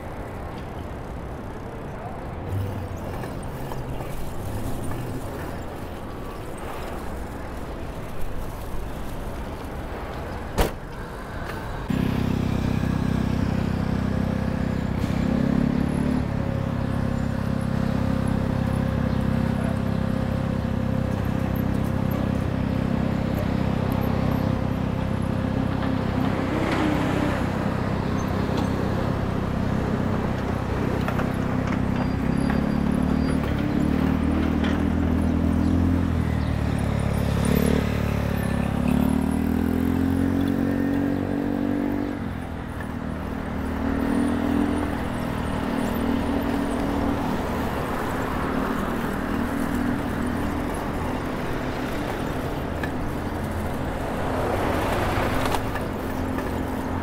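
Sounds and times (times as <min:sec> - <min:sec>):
city street traffic: 0:00.0 - 0:57.0.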